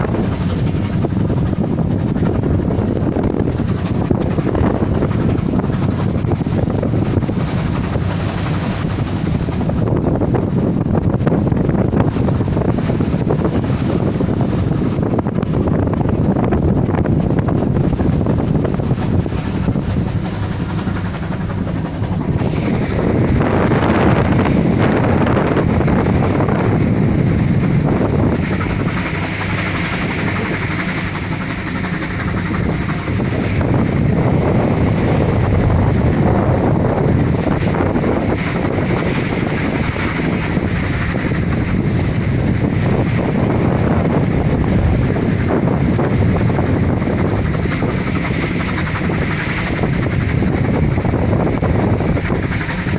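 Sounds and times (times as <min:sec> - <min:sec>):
boat engine rumble: 0:00.0 - 0:52.9
sea waves: 0:00.0 - 0:52.9
wind buffeting microphone: 0:00.0 - 0:52.9.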